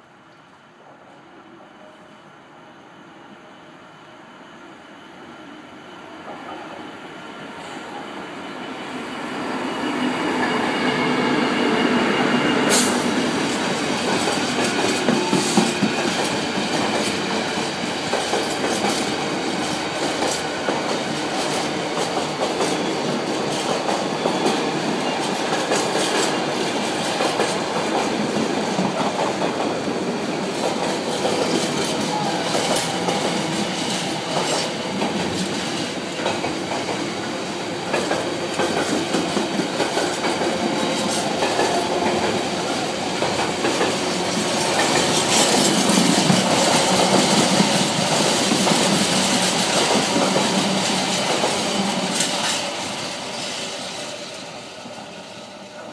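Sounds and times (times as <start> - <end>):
diesel locomotive hauling train: 0.0 - 55.9.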